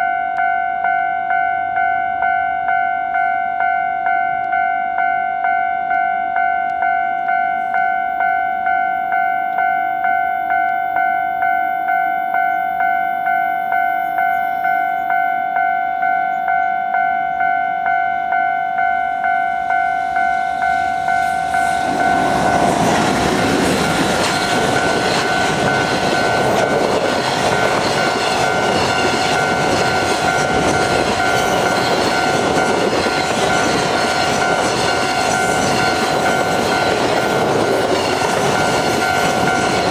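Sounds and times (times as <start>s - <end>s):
level crossing warning bell: 0.0s - 39.9s
train passing: 0.4s - 39.9s.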